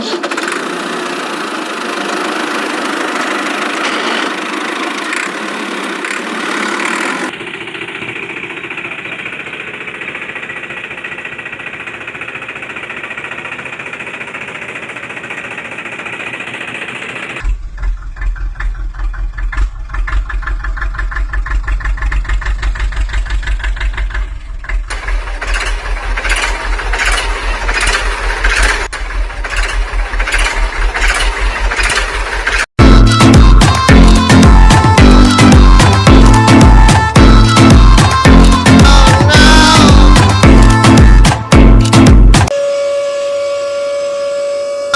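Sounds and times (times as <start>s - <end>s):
tractor engine chugging: 0.0s - 42.5s.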